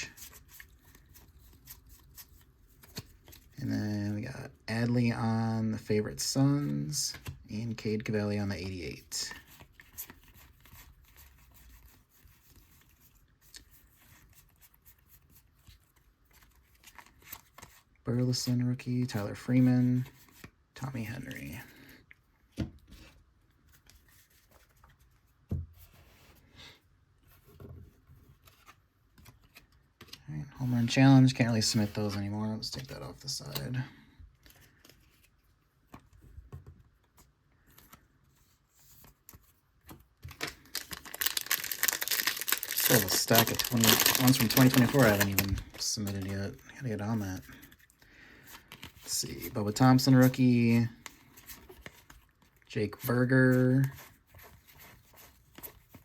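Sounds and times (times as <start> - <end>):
trading cards rustling and flicking: 0.0 - 3.6, 6.2 - 21.6, 27.4 - 56.0.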